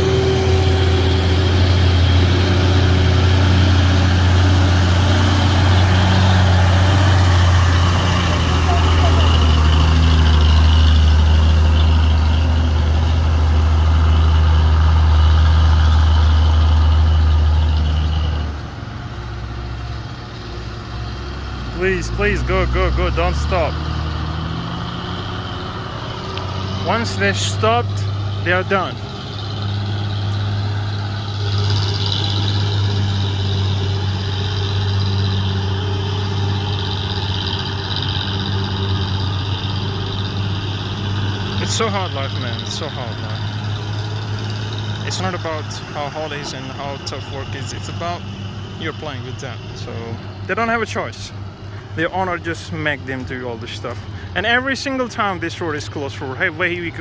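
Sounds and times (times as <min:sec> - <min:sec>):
truck engine pulling under load: 0:00.0 - 0:57.0.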